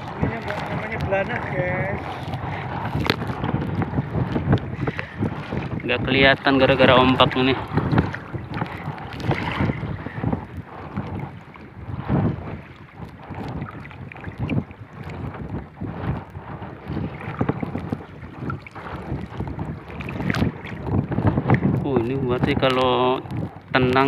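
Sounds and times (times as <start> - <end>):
water splashing against boat: 0.0 - 24.0
wind buffeting microphone: 0.0 - 24.0.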